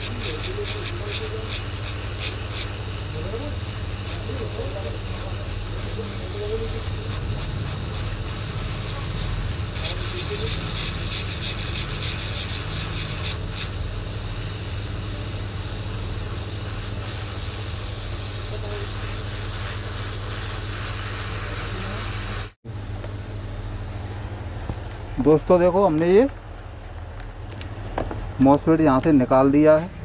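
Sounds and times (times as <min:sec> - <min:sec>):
hot air station hissing: 0:00.0 - 0:24.3.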